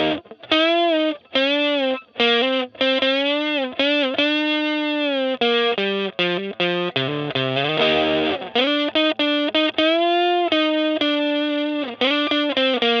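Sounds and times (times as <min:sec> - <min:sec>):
distorted electric guitar solo: 0:00.0 - 0:13.0.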